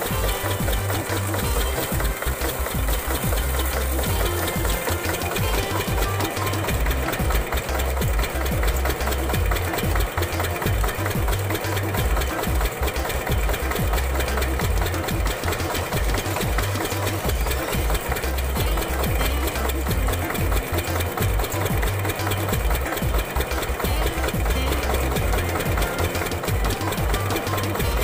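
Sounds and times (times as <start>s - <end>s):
diesel engine knocking steadily: 0.0s - 28.0s.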